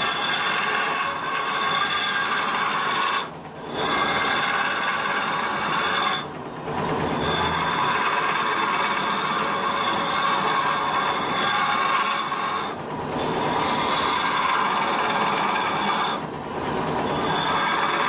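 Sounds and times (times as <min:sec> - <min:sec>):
turning tool scraping wood: 0:00.0 - 0:18.0
wood lathe whine: 0:00.0 - 0:18.0.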